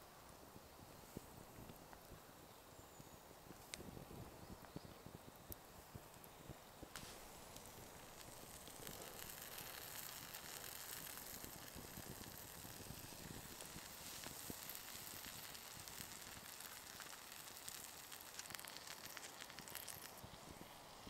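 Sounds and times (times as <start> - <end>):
campfire crackling: 0.2 - 21.0
mushroom sizzling in a pan: 2.2 - 21.0.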